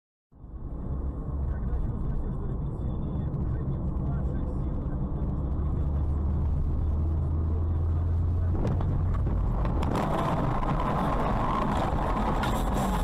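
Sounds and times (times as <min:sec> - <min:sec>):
car engine and tyre noise: 0:00.3 - 0:13.0.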